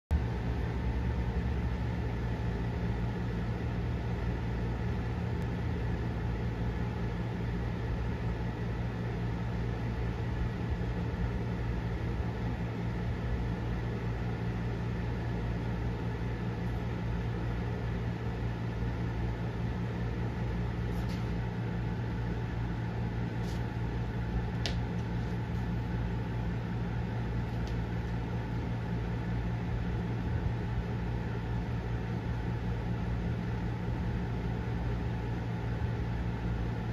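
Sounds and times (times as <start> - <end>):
low mechanical hum: 0.1 - 36.9.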